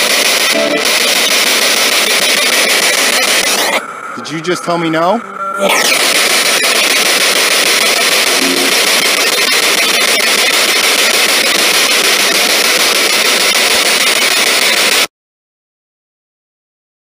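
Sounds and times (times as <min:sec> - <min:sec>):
loud radio static: 0:00.0 - 0:15.1.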